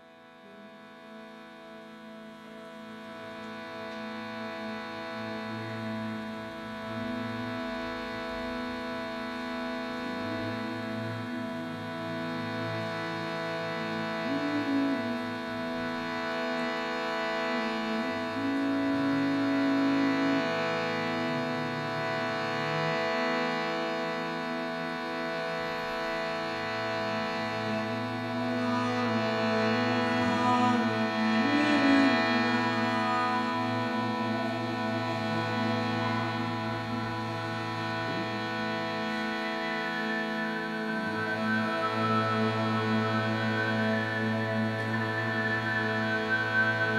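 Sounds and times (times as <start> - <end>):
harmonium drone and melody: 0.0 - 46.9.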